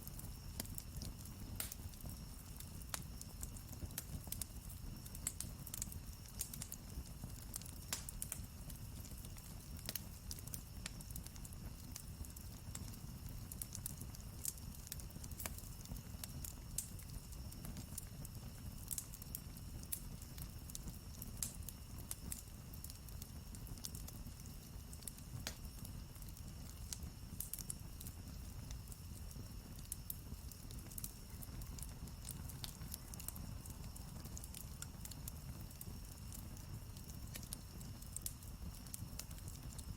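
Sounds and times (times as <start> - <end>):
campfire crackling: 0.0 - 39.9
low rumble of burning fire: 0.0 - 39.9.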